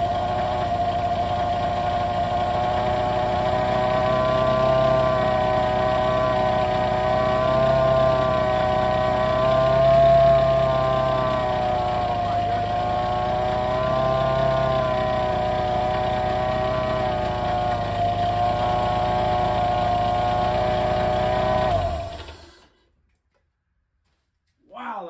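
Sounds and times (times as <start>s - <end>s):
car engine idling: 0.0s - 22.6s
supercharger whine: 0.0s - 22.8s.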